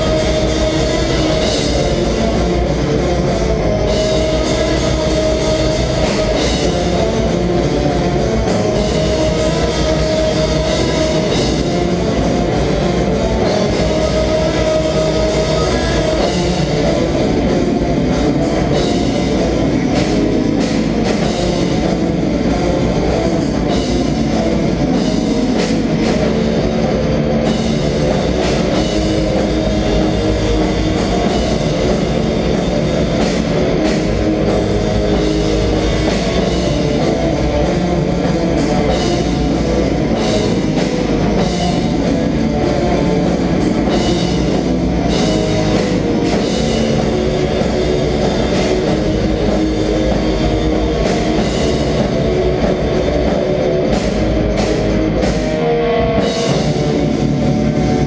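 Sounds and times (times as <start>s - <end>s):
metal band playing live: 0.0s - 58.0s.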